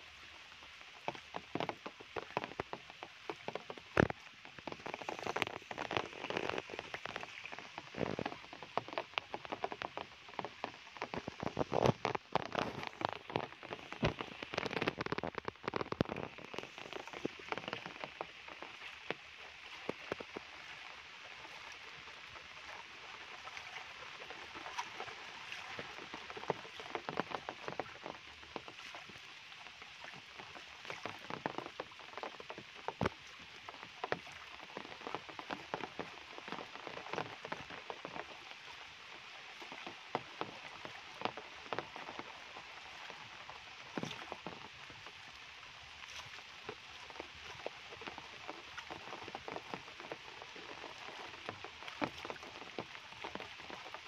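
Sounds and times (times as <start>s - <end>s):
steady rain on foliage: 0.0s - 54.0s
close raindrop hits: 1.0s - 54.0s.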